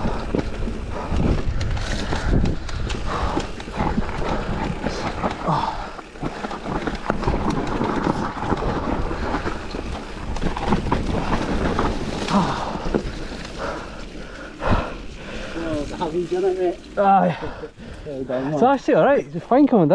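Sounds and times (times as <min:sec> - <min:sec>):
wind buffeting microphone: 0:00.0 - 0:16.9
bike rattling and clattering: 0:00.0 - 0:17.5
tyres rolling over dirt: 0:00.0 - 0:18.9.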